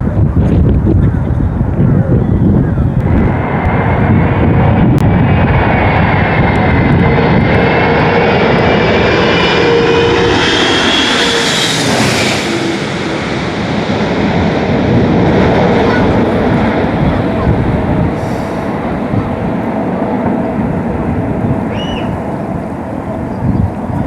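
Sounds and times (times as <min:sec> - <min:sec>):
airliner engines rumble and whine: 0:00.0 - 0:24.0.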